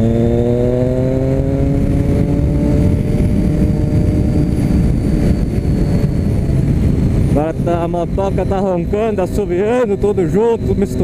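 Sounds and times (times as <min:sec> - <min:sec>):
motorcycle exhaust rumble: 0:00.0 - 0:11.0.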